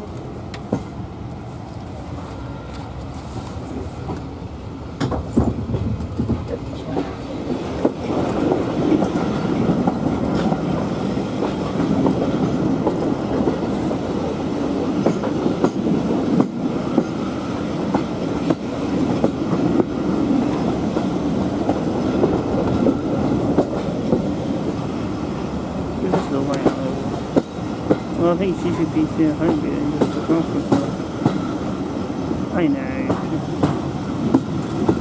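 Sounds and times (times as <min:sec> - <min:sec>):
train coach rumble: 0:00.0 - 0:35.0.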